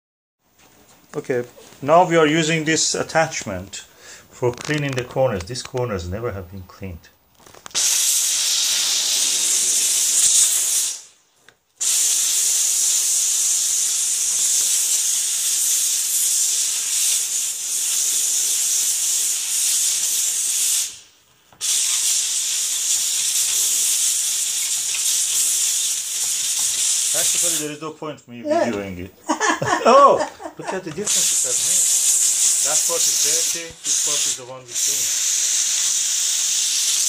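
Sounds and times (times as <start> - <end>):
steam cleaner hissing: 1.2 - 4.5, 7.6 - 27.9, 28.5 - 37.0.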